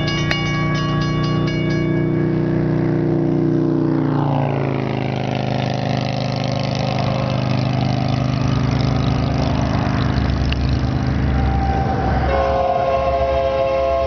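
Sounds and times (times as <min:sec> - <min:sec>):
freight train rumble: 0:00.0 - 0:03.6, 0:04.3 - 0:14.0
low diesel drone: 0:00.0 - 0:14.0
vehicle passing by: 0:00.0 - 0:14.0.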